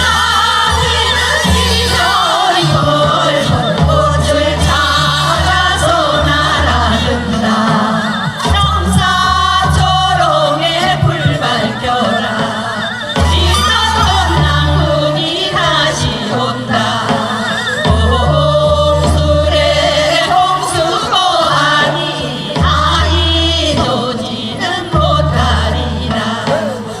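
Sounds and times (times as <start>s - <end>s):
person singing with vibrato: 0.0s - 27.0s.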